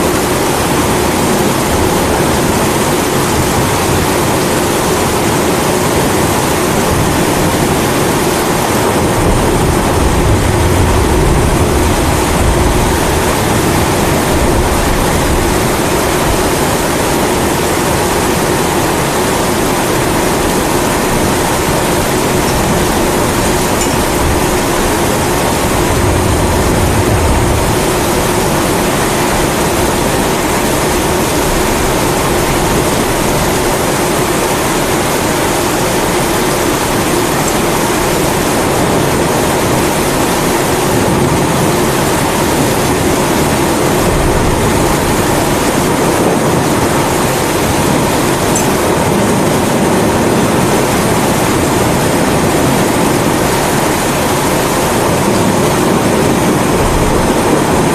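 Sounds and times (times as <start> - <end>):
rain: 0.0 - 57.9.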